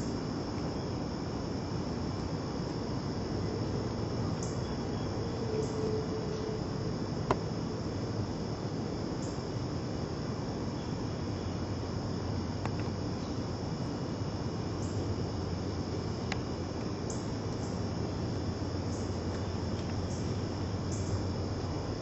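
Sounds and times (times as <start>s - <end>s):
high-pitched insect drone: 0.0s - 22.0s
low rumbling hiss: 0.0s - 22.0s.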